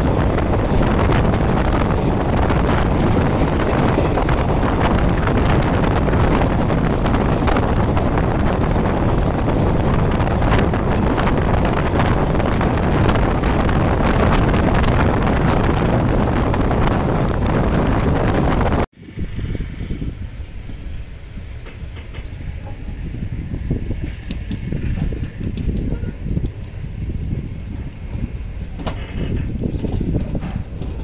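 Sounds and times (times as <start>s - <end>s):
moving train running noise: 0.0s - 31.0s
wind buffeting microphone: 0.0s - 31.0s.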